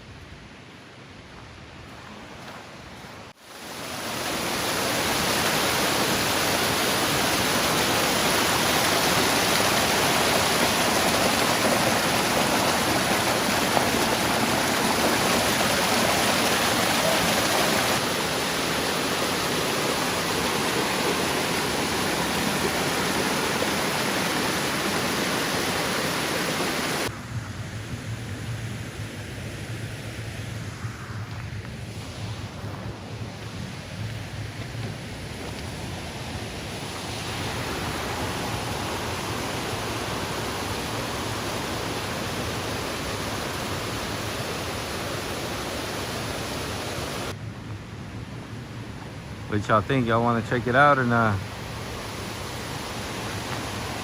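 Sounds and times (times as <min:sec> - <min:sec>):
waterfall rushing: 0:03.3 - 0:27.1, 0:31.9 - 0:47.4, 0:49.6 - 0:54.0.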